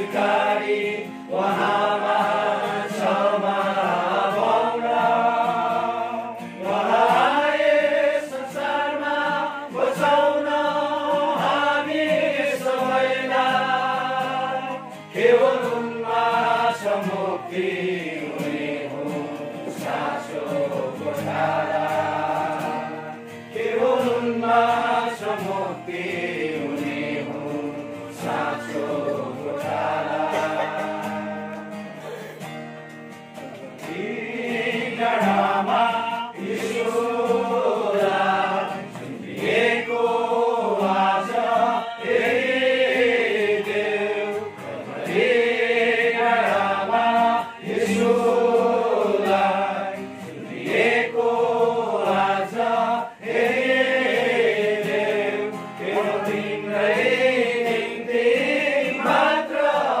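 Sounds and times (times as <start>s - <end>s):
congregation singing a hymn: 0.0s - 32.9s, 33.6s - 60.0s.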